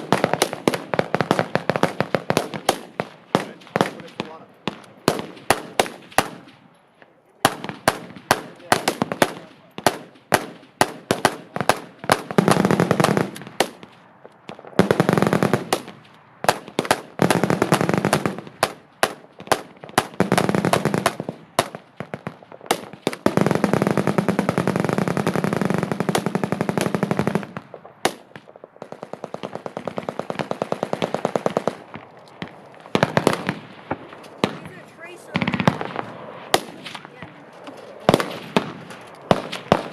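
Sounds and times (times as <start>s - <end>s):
machine gun fire: 0.0s - 6.7s, 7.4s - 39.9s.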